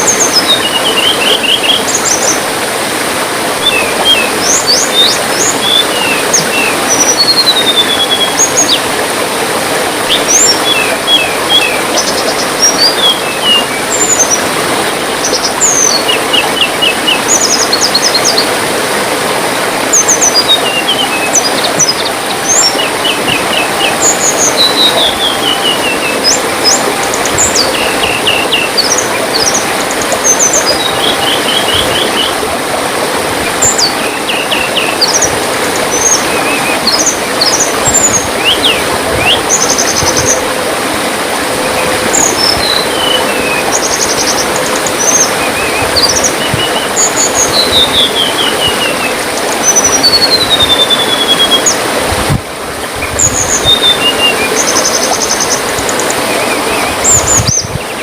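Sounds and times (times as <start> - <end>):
songbirds chirping and trilling: 0.0 - 52.0, 53.0 - 58.0
trickling water: 0.0 - 58.0.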